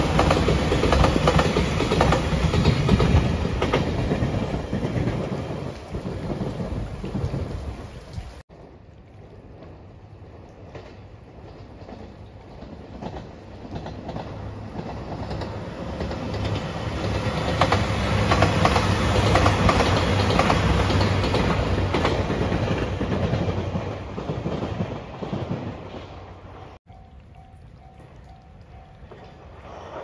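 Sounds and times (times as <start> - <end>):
wheels clacking over rail joints: 0.0 - 7.6, 9.4 - 30.0
diesel train passing: 0.0 - 7.8, 9.1 - 30.0.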